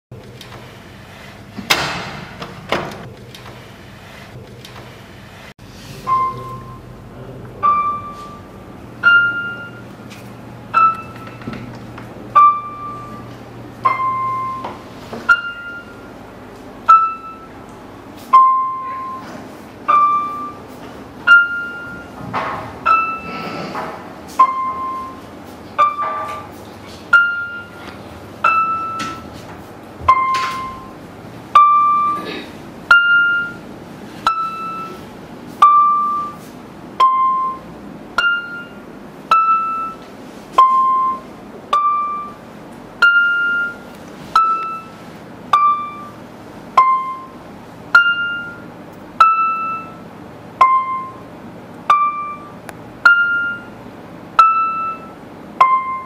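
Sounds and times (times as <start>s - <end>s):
electronic keyboard slow melody: 7.5s - 11.7s, 12.3s - 22.2s, 22.8s - 23.6s, 24.3s - 29.4s, 30.0s - 50.0s, 50.6s - 56.0s.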